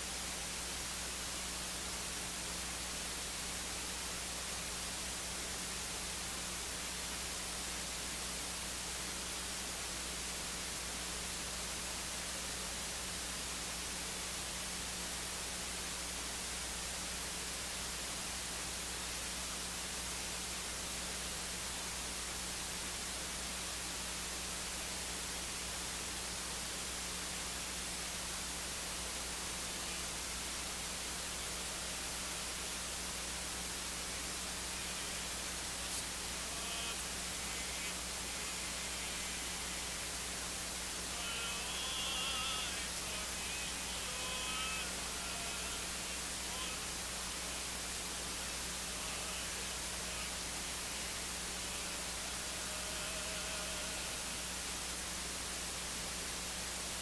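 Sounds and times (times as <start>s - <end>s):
low electrical hum: 0.0s - 57.0s
steady hiss: 0.0s - 57.0s.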